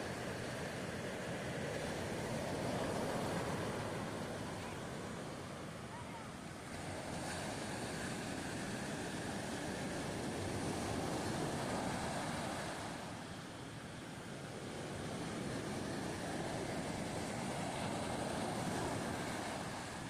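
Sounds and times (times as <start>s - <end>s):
sea surf washing on beach: 0.0s - 20.0s
wind: 0.0s - 20.0s.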